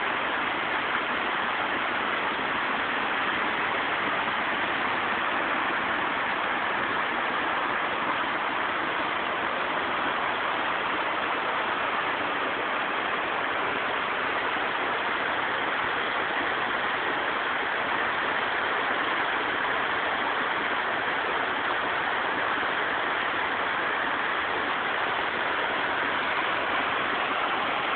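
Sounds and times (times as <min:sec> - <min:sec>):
river rushing over rapids: 0:00.0 - 0:27.9.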